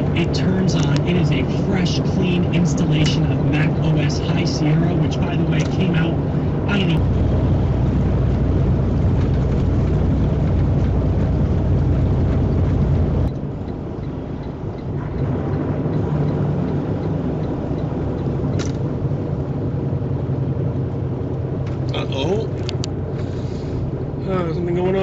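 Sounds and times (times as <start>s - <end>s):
vehicle road and engine noise: 0.0s - 25.0s.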